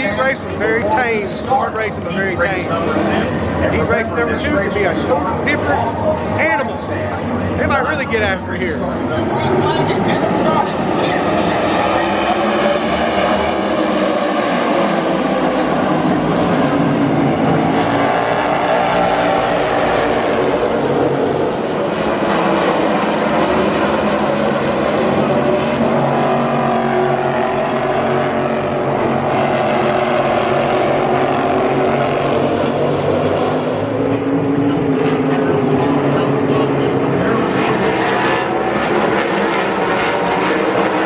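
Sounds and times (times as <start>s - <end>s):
race car engines passing: 0.0s - 41.0s.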